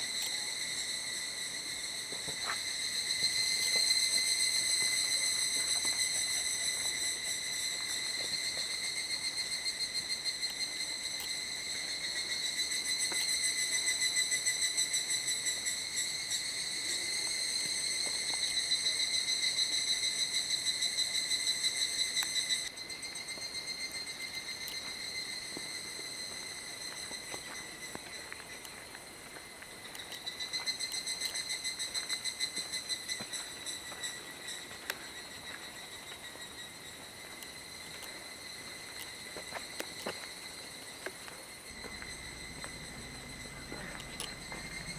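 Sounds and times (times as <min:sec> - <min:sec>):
insect trilling: 0:00.0 - 0:44.9.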